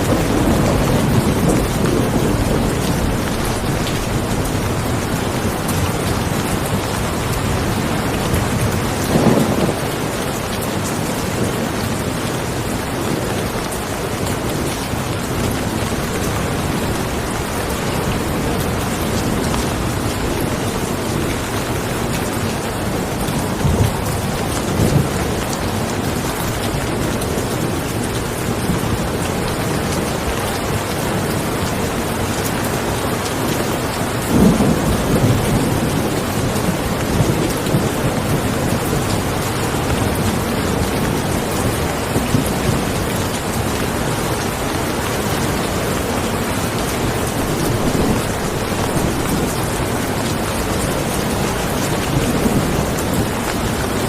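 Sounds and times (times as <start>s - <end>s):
distant thunder rumbles: 0.0s - 30.6s, 33.6s - 54.0s
steady rain falling: 0.0s - 54.0s.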